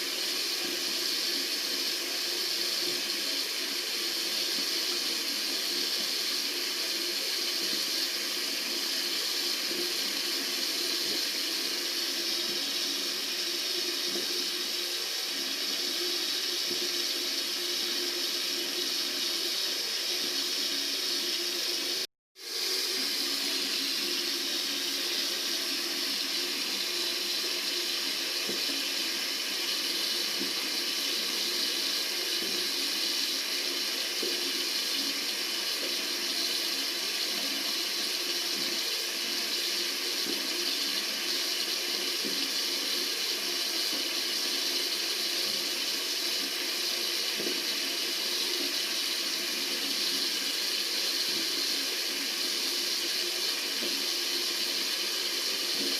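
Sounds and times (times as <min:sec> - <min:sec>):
tap water running into sink: 0:00.0 - 0:55.9.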